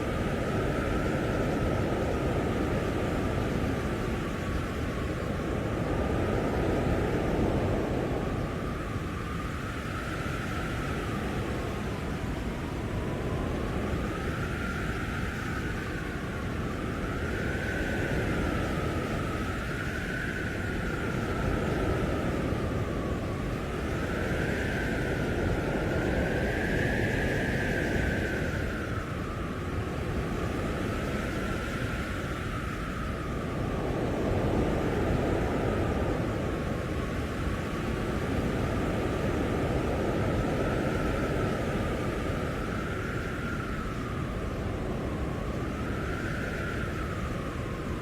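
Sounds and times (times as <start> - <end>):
blizzard wind howling: 0.0 - 48.0.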